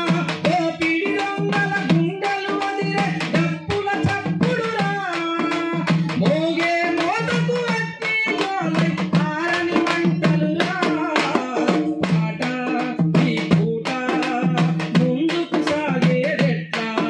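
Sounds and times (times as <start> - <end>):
frame drums beaten with sticks: 0.0 - 17.0
man singing folk song: 0.0 - 17.0.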